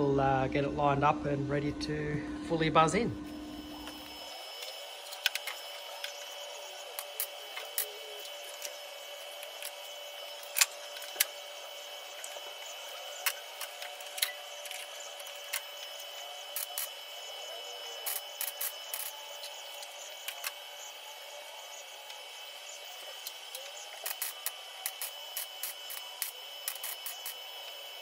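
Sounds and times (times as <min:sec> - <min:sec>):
high electrical whine: 0:00.0 - 0:28.0.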